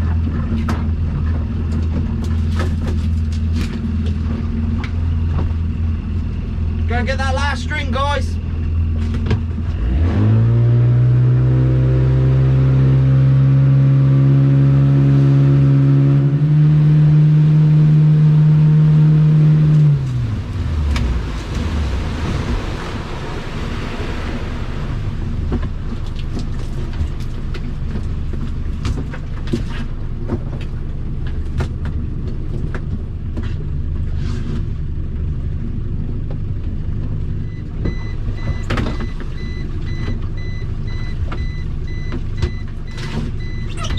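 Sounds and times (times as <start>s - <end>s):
boat engine running: 0.0s - 43.9s
water noise: 0.0s - 43.9s
wind: 0.0s - 43.9s.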